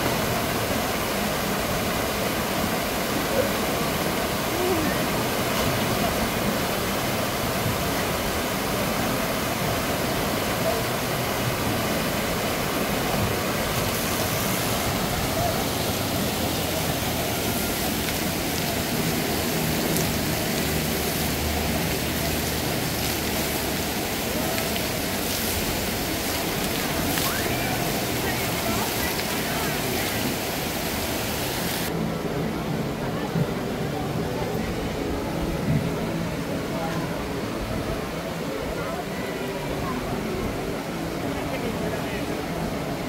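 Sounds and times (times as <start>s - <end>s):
rush of falling water: 0.0s - 43.0s
distant voices murmuring: 2.9s - 43.0s.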